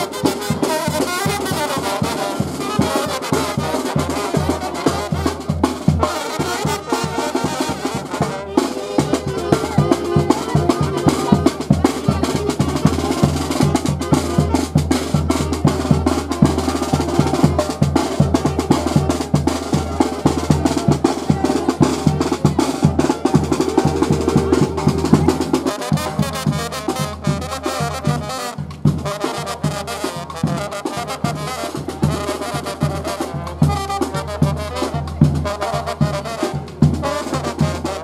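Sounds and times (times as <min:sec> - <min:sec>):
bass drum and snare rhythm: 0:00.0 - 0:38.0
brass band playing: 0:00.0 - 0:38.0.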